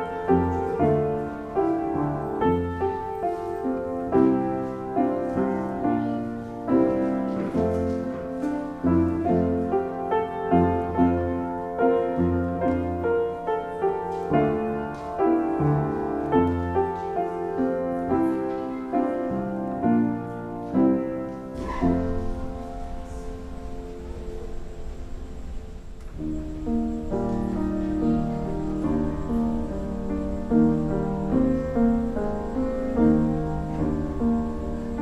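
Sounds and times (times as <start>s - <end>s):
slow hymn-like piano chords: 0.0s - 35.0s.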